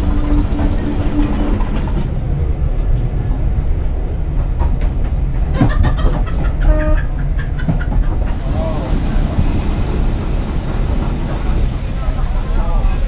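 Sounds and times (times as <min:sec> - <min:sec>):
train rumbling on rails: 0:00.0 - 0:13.0
wheels clacking over rail joints: 0:00.0 - 0:13.0.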